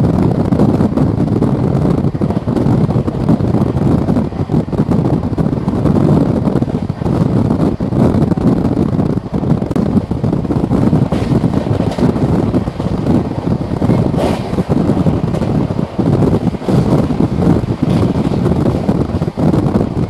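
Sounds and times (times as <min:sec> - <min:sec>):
train wheels running on rails: 0:00.0 - 0:20.0
wind buffeting microphone: 0:00.0 - 0:20.0
wind rush: 0:00.0 - 0:20.0.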